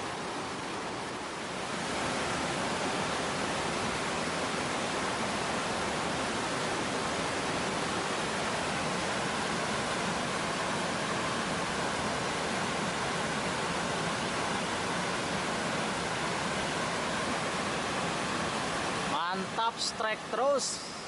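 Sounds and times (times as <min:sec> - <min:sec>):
water rushing over dam: 0:00.0 - 0:21.0.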